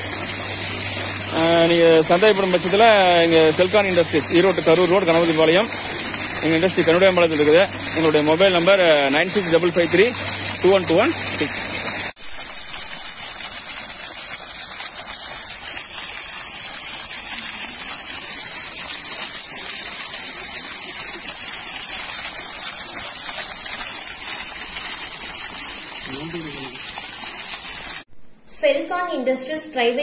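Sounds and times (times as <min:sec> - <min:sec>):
water gushing from a pipe: 0:00.0 - 0:28.1.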